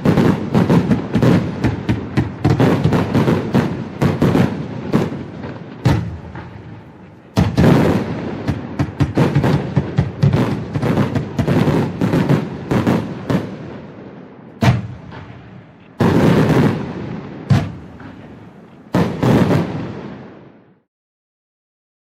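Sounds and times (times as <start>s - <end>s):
fireworks launching and bursting: 0.0s - 20.9s.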